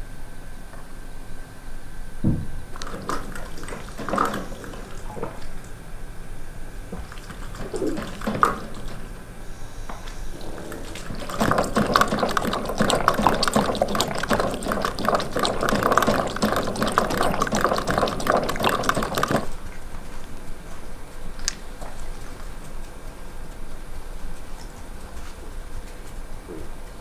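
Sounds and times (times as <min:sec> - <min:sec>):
crackly splashing liquid: 0:02.7 - 0:26.2.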